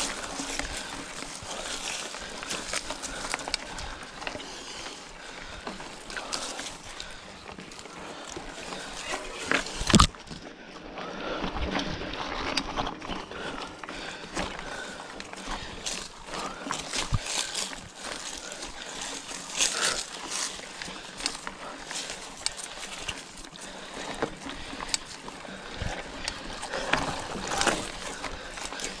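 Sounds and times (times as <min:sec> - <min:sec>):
bike clicks and knocks: 0:00.0 - 0:10.5, 0:11.4 - 0:29.0
tyres crunching on dirt: 0:00.0 - 0:29.0.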